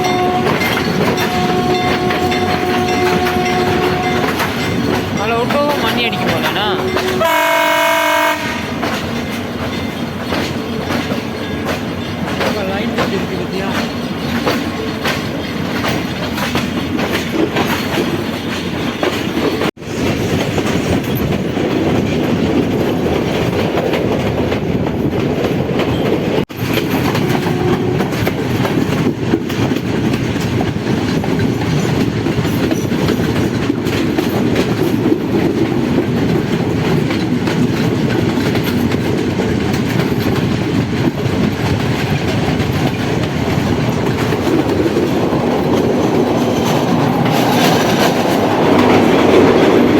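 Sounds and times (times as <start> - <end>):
clickety-clack over rail joints: 0.0 - 49.9
train wheels rumbling on rails: 0.0 - 49.9.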